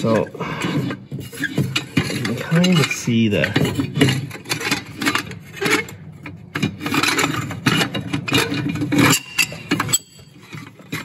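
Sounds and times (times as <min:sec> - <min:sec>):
metal pipe scraping: 0:00.0 - 0:11.0.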